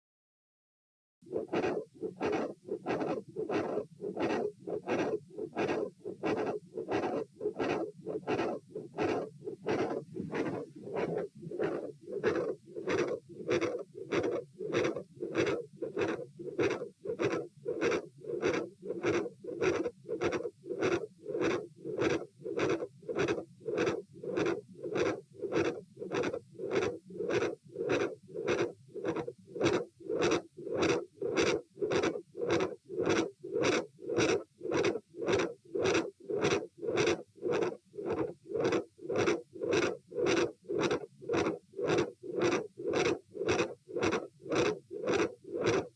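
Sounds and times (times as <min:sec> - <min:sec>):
continuous heart murmur: 0:01.2 - 0:45.9
heartbeat through stethoscope: 0:01.5 - 0:45.9.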